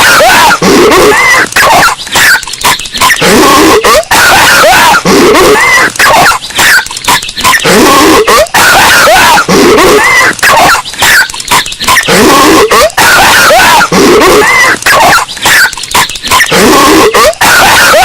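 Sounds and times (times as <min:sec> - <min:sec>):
distorted cartoon voice coughing: 0:00.0 - 0:18.0.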